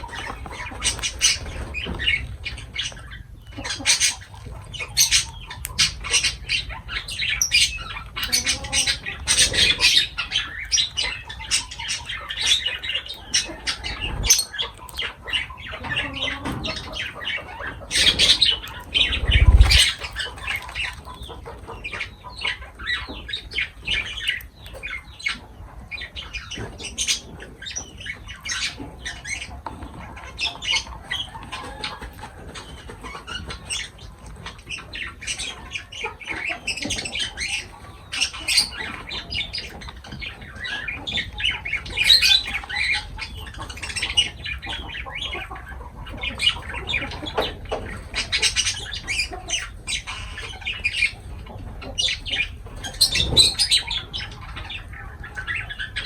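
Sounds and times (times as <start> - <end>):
lovebirds chirping and squawking: 0.0 - 56.0.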